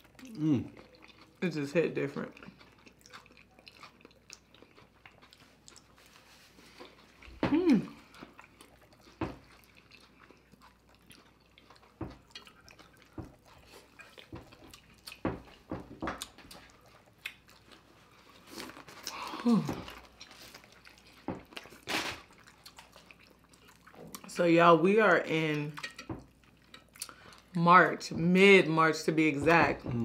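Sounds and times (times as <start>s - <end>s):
chewing and wet mouth smacks: 0.0s - 1.4s, 2.2s - 24.3s, 25.7s - 27.6s.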